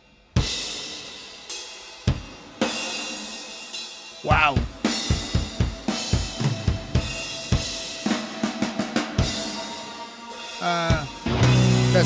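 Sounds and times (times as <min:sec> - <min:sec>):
drum kit playing: 0:00.2 - 0:12.0.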